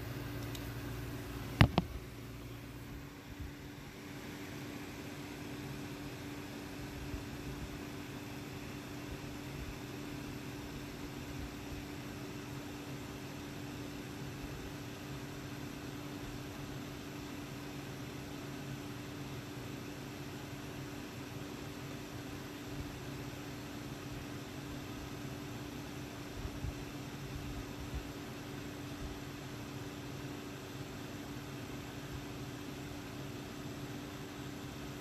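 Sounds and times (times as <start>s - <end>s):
machine hum with hiss: 0.0s - 35.0s.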